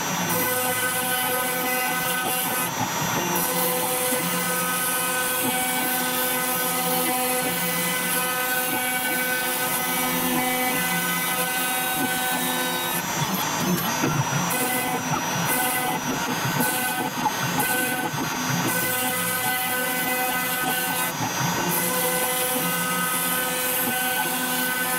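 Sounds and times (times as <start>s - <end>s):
router spindle whine: 0.0s - 24.9s.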